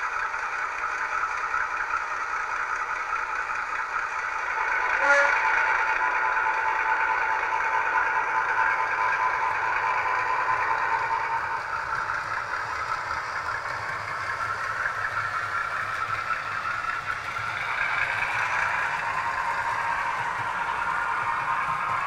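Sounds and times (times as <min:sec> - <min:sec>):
model diesel engine sound: 0:00.0 - 0:22.0
wheels rolling on track: 0:00.0 - 0:22.0.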